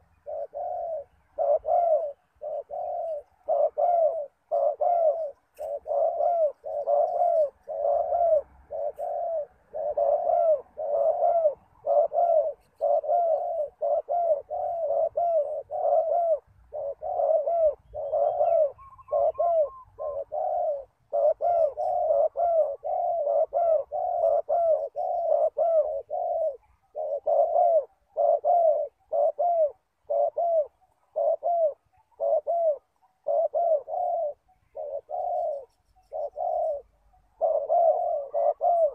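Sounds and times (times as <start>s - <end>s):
dove cooing: 0.0s - 38.9s
faint high bird call: 0.0s - 38.9s.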